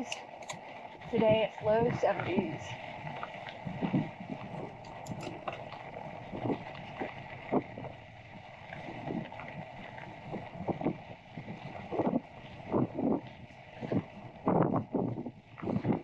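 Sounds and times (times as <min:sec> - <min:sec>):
wind on microphone: 0:00.0 - 0:16.0
bike tyres on dirt: 0:00.3 - 0:16.0.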